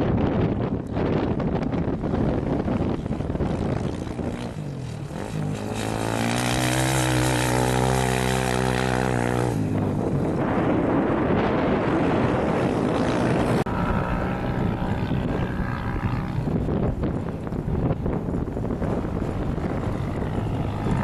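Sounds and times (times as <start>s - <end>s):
wind buffeting microphone: 0.0s - 21.0s
loud engine: 2.3s - 21.0s.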